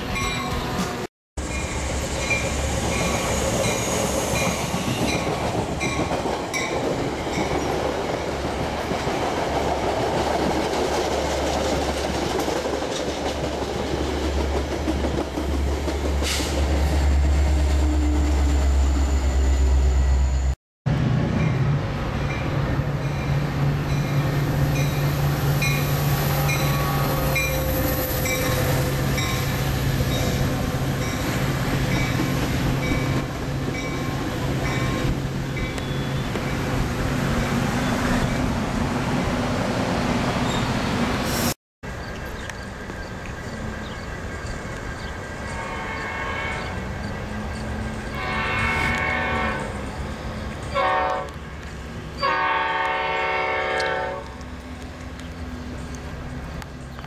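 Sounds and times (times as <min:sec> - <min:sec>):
train passing with rail rumble: 0:00.0 - 0:57.0.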